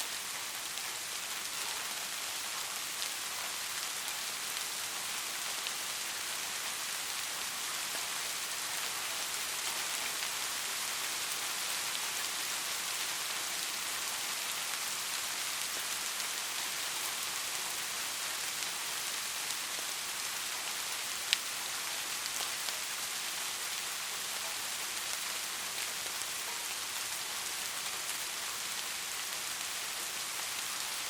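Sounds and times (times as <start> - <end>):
light rain hissing: 0.0 - 31.0.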